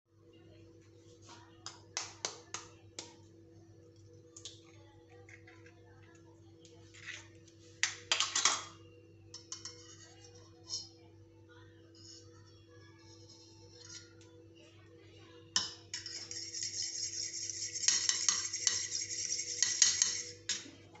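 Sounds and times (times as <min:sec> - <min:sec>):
steady low hum: 0:00.1 - 0:21.0.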